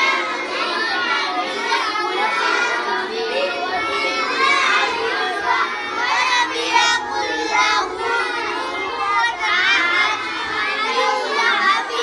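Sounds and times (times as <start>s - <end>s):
children chanting in unison: 0.0s - 12.0s.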